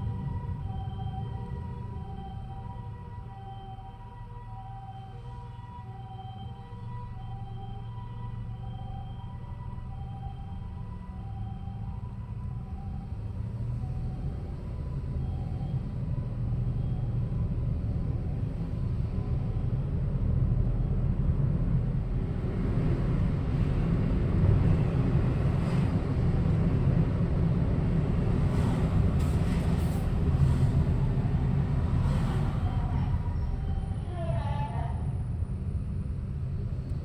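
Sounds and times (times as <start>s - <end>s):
road traffic rumble: 0.0s - 37.0s.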